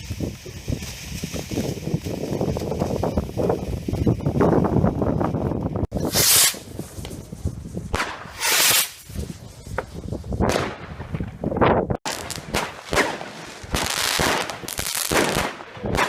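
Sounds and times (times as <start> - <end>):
fireworks launching whooshes: 0.0 - 4.1, 5.9 - 11.5, 12.1 - 16.0
fireworks crackling: 0.0 - 5.1, 5.9 - 16.0.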